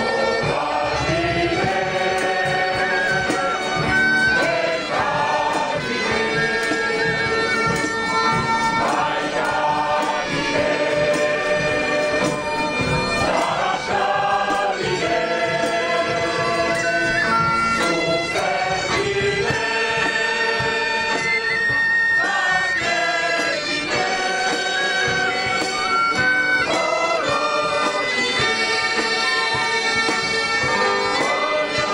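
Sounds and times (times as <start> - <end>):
crowd singing together: 0.0 - 31.9
wind instrument holding long notes: 0.0 - 31.9.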